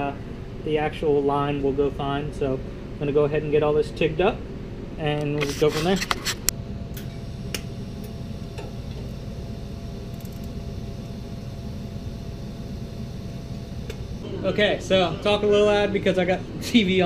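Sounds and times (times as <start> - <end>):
welding hum with thin tone: 0.0 - 17.0.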